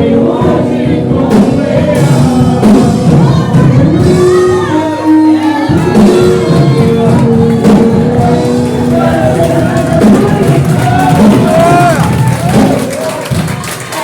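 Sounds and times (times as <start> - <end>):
people singing worship music: 0.0 - 13.3
bass and drums: 0.0 - 14.0
keyboard chords: 0.0 - 14.0.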